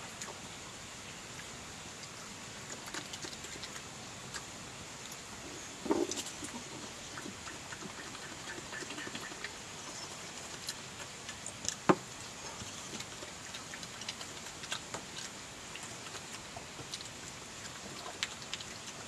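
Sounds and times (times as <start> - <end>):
steady hiss: 0.0 - 19.0
badger chewing and snuffling: 1.2 - 19.0.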